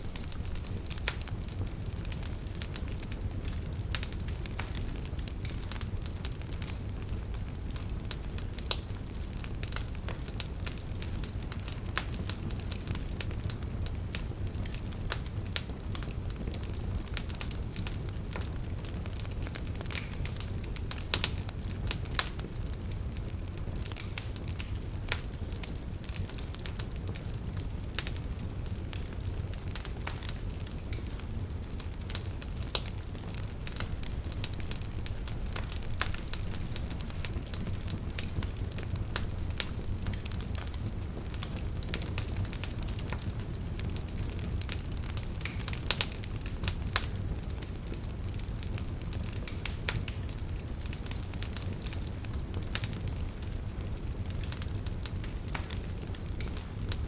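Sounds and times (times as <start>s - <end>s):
fire flames rumbling: 0.0s - 57.0s
logs crackling and popping: 0.0s - 57.0s.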